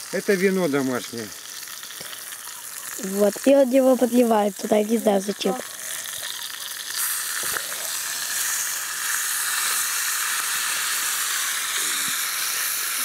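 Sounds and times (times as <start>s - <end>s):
meat sizzling over ashes: 0.0s - 13.0s.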